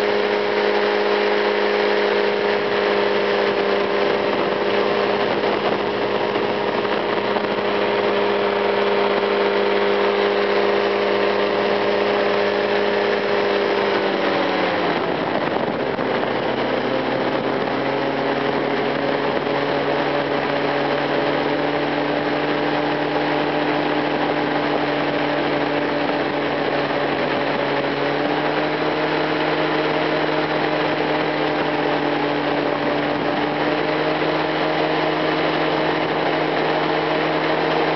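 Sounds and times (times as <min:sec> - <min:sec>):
airflow rushing: 0:00.0 - 0:37.9
engine and propeller running: 0:00.0 - 0:37.9.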